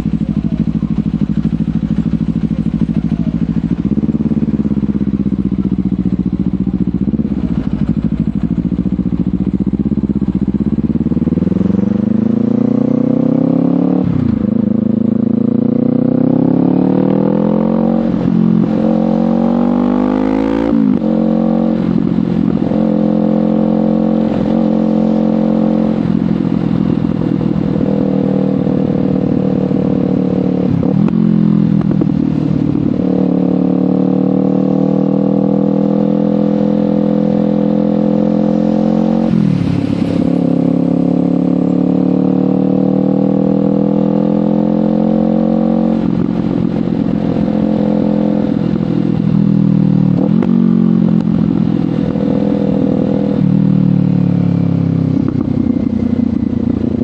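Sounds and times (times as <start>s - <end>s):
motorcycle engine revving and shifting: 0.0s - 57.0s.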